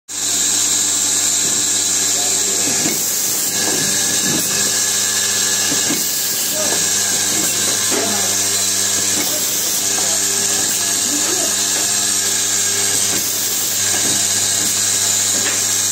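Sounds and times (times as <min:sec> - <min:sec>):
machine hum: 0:00.2 - 0:15.9.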